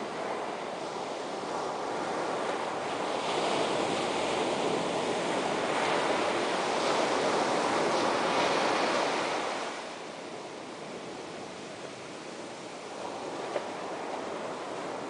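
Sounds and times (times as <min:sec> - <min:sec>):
ocean waves breaking: 0:00.2 - 0:15.0.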